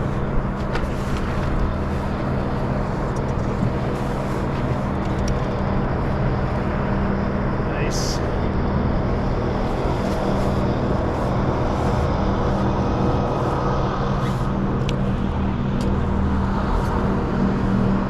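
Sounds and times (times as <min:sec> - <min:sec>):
boat motor droning: 0:00.0 - 0:18.0
wind: 0:00.0 - 0:18.0.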